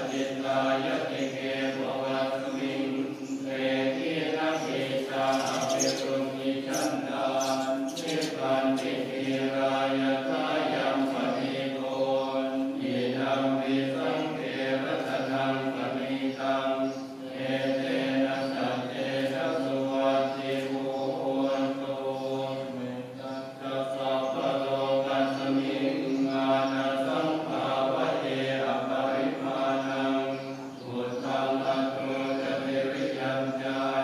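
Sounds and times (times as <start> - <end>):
voices chanting in low drone: 0.0 - 34.0.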